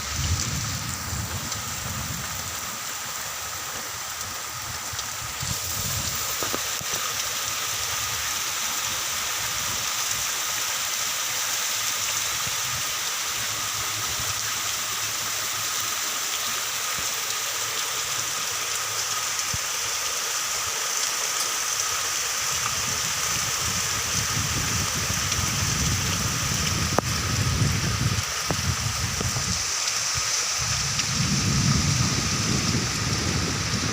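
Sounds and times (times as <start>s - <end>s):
heavy rain on surfaces: 0.0s - 33.9s.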